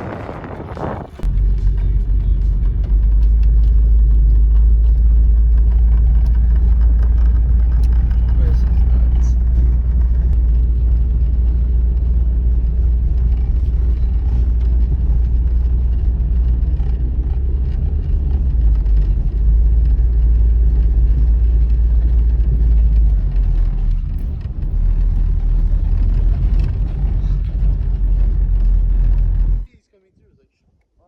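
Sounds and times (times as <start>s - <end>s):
car engine rumble: 0.0s - 29.7s
road noise: 0.0s - 29.7s.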